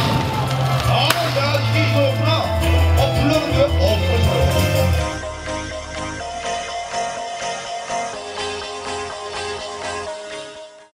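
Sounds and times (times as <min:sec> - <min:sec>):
background music with steady beat: 0:00.0 - 0:10.9.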